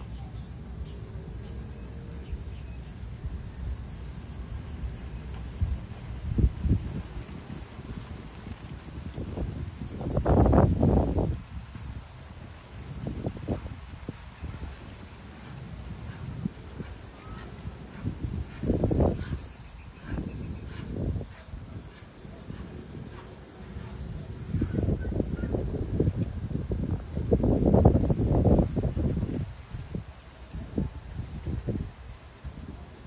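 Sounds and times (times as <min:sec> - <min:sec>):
insects chirring: 0:00.0 - 0:33.0
wind buffeting microphone: 0:04.7 - 0:32.8.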